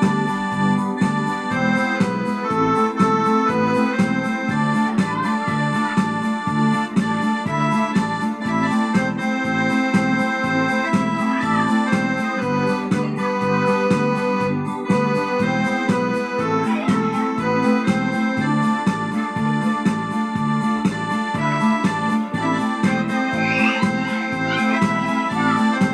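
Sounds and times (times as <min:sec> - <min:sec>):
organ-like keyboard chords: 0:00.0 - 0:25.9
rhythmic bass accompaniment: 0:00.0 - 0:25.9.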